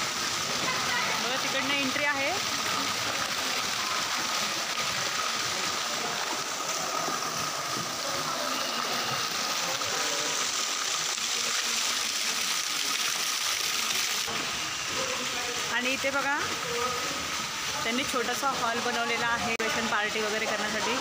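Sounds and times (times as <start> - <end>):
running water hiss: 0.0 - 21.0.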